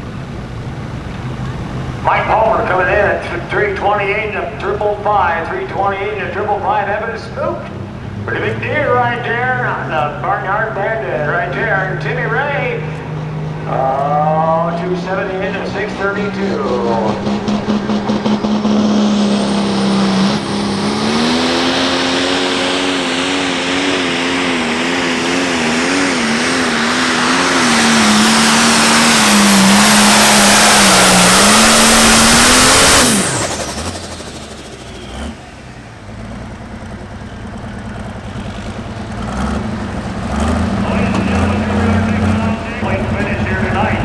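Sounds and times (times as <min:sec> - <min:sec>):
diesel tractor engine at full throttle: 0:00.0 - 0:44.0.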